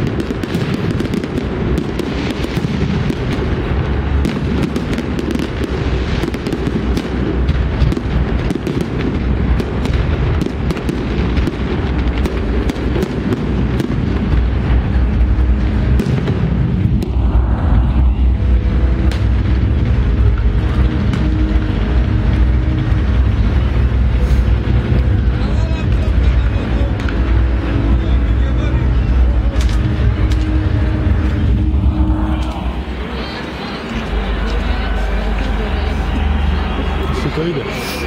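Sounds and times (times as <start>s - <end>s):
fireworks booming: 0.0s - 38.0s
fireworks cracking and popping: 0.0s - 38.0s.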